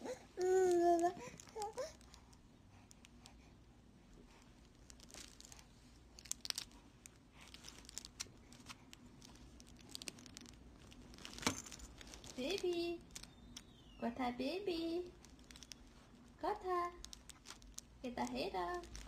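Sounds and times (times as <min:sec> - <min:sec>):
crinkle toy rustling: 0:00.1 - 0:19.0.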